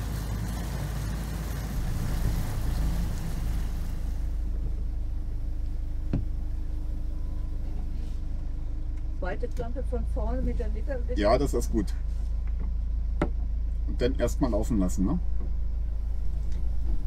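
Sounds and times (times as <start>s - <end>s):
motorboat engine humming: 0.0s - 14.2s.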